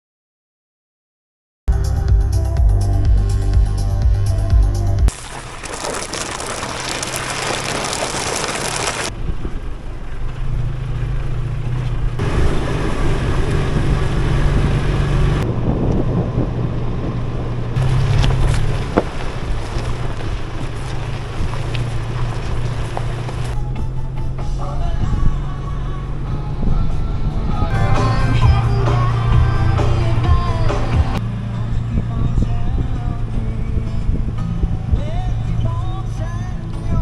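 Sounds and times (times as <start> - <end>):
vehicle engine drone: 1.7 - 37.0
road and wind noise: 5.1 - 37.0.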